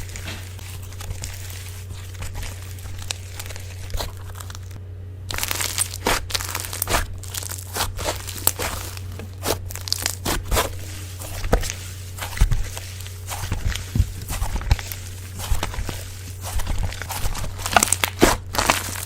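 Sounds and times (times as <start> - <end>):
slime crackling and tearing: 0.0 - 19.0
steady low hum: 0.0 - 19.0.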